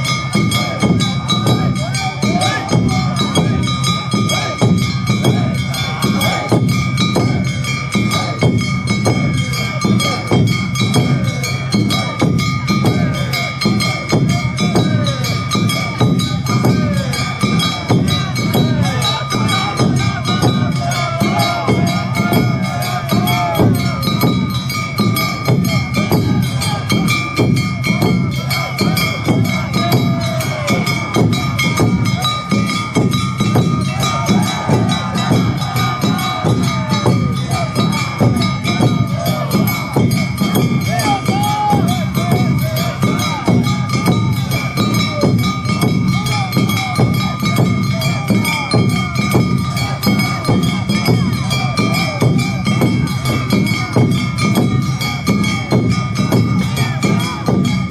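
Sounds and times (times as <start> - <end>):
crowd voices: 0.0 - 57.9
drums beating: 0.0 - 57.9.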